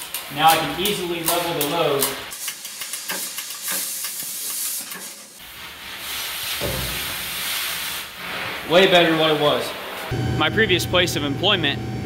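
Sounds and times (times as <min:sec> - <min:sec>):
steady high hiss: 0:00.0 - 0:10.1.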